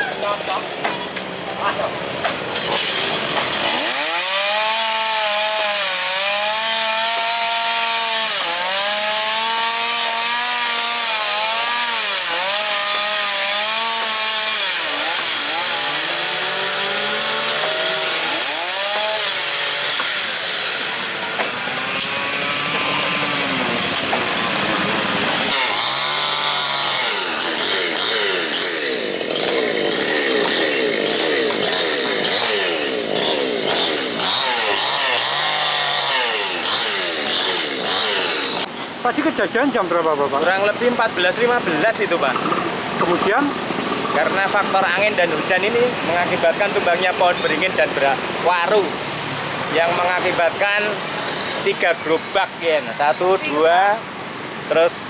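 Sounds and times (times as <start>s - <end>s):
chainsaw cutting wood: 0.0s - 38.7s, 40.5s - 52.1s.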